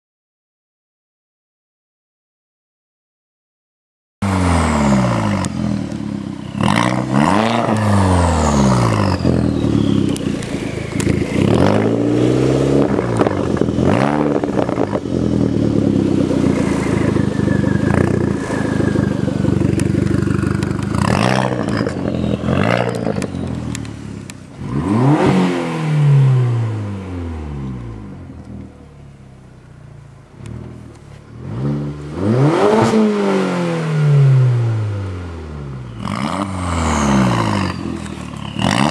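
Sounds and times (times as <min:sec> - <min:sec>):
turbocharged car engine revving: 0:04.2 - 0:38.9.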